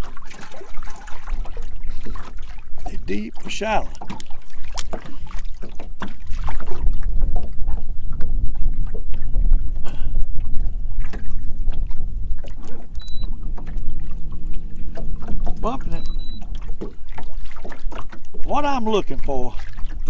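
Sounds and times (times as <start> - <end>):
waves slapping boat hull: 0.0 - 20.0
wind buffeting microphone: 0.0 - 20.0.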